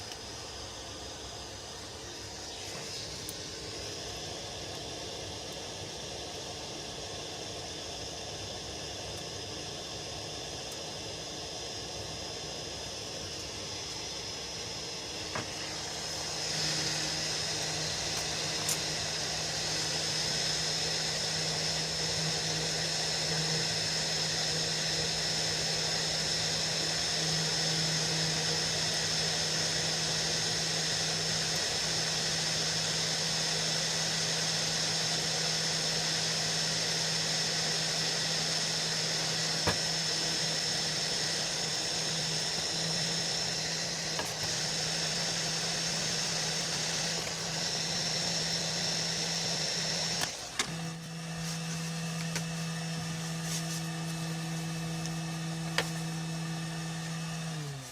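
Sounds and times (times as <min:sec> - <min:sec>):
small electric motor whining: 0:00.0 - 0:57.9.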